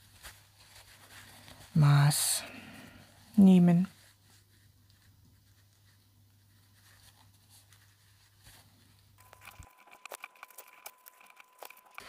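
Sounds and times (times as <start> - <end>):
fabric rustling and scratching: 0.0 - 2.2, 3.2 - 11.9.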